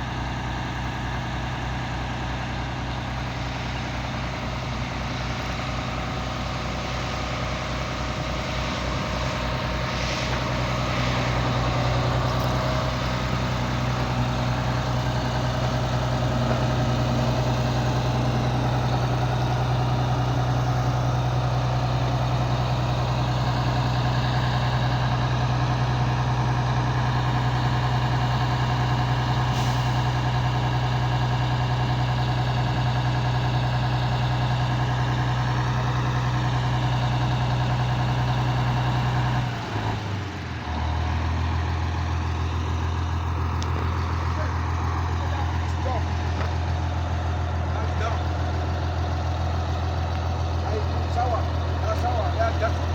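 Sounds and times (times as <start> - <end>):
heavy engine running: 0.0 - 52.9.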